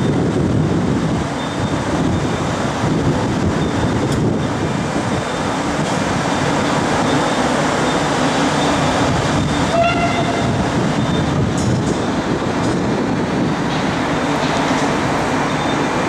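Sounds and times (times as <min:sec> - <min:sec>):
diesel trains running slowly: 0:00.0 - 0:16.0.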